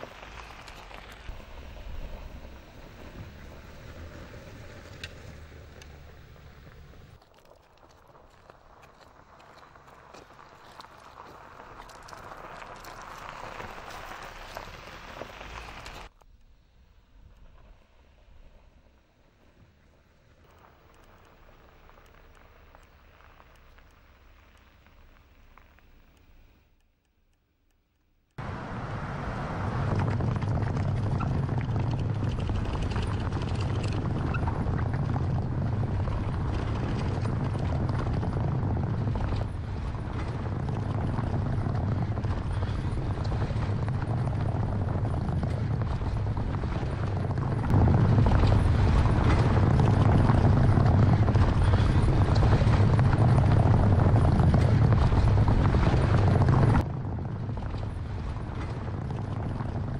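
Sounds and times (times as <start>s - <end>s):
tyres rumbling over cobblestones: 0.0s - 26.6s, 28.4s - 59.9s.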